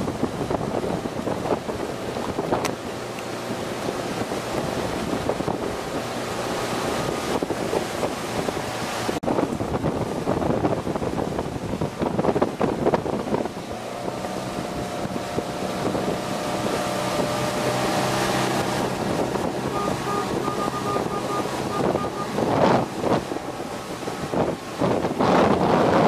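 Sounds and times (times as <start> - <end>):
steady engine hum: 0.0 - 26.0
wind buffeting microphone: 0.0 - 26.0.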